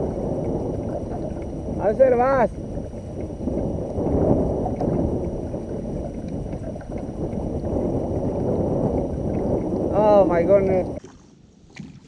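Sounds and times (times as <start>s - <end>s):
water lapping against kayak: 0.0s - 12.0s
wind buffeting microphone: 0.0s - 12.0s.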